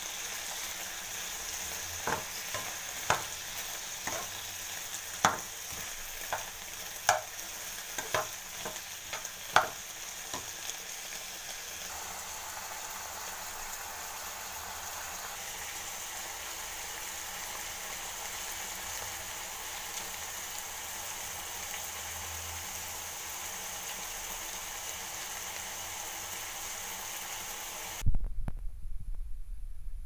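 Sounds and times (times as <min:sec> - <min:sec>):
food sizzling in frying pan: 0:00.0 - 0:28.0.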